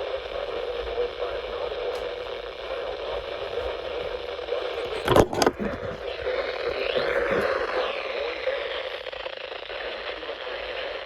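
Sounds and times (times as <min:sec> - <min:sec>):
loud static crackle: 0:00.0 - 0:11.0
radio static hiss: 0:00.0 - 0:11.0.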